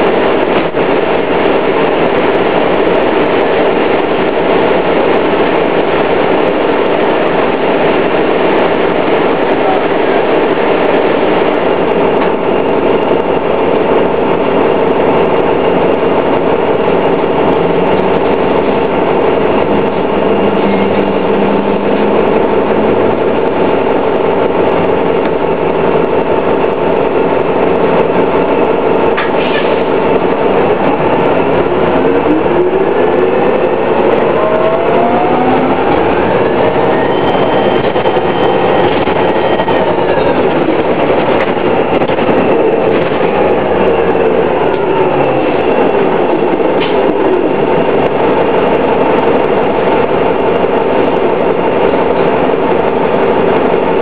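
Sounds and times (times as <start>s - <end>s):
drivetrain whine rising in pitch: 0.0s - 29.2s, 29.8s - 54.0s
bus diesel engine droning: 0.0s - 54.0s.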